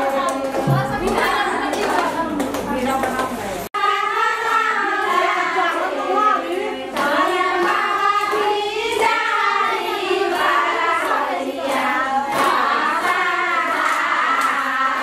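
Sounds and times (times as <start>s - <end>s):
high voices singing together: 0.0s - 2.5s, 3.8s - 15.0s.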